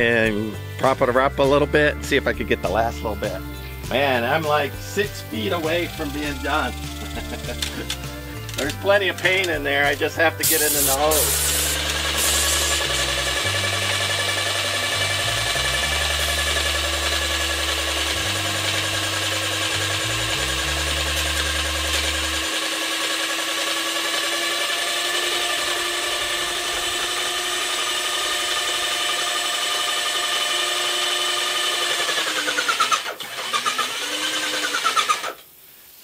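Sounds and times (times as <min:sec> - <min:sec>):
paint sprayer pump whining: 0:02.1 - 0:35.5.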